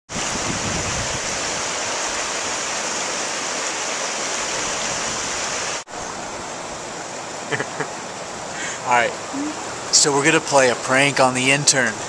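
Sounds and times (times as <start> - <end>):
river rushing over boulders: 0.1 - 12.0.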